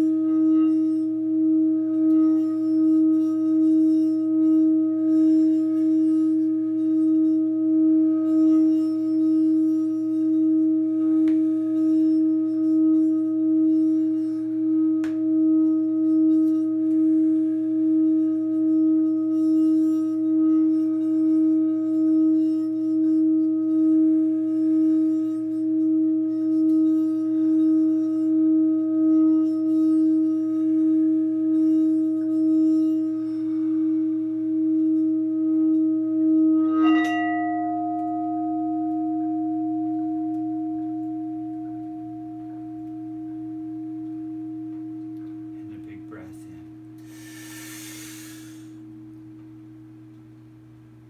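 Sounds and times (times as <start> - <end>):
singing bowl humming: 0.0 - 51.0.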